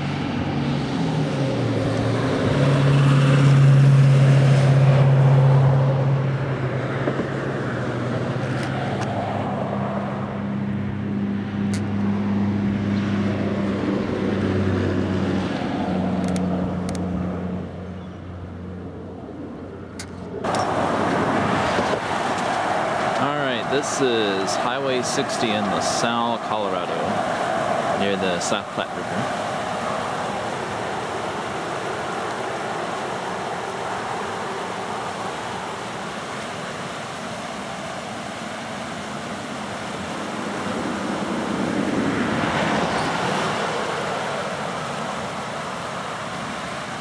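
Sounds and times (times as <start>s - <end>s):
river water rushing: 0.0s - 47.0s
road traffic: 0.0s - 47.0s
vehicle engine humming: 0.0s - 47.0s.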